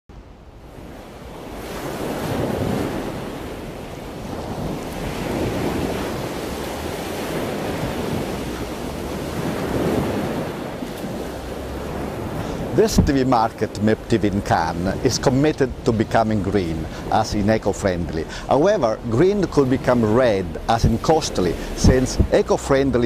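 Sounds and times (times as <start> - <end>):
surf washing on beach: 0.1 - 23.0
wind on microphone: 0.2 - 23.0.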